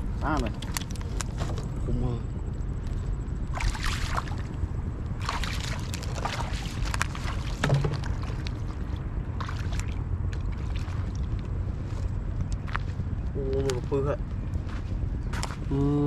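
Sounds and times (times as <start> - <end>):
water splashing and sloshing: 0.0 - 1.7, 3.1 - 15.6
wind rumble on microphone: 0.0 - 16.0.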